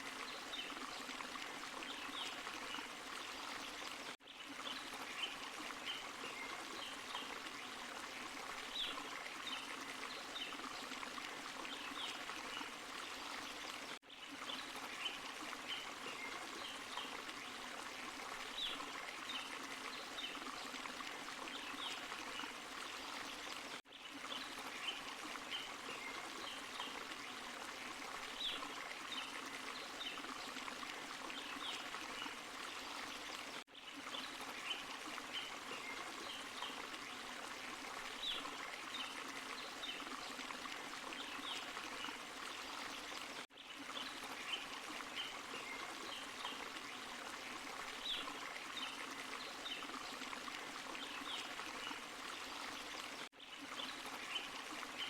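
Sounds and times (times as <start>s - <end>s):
stream and small waterfall: 0.0s - 55.0s
water splashes and trickles: 0.0s - 55.0s.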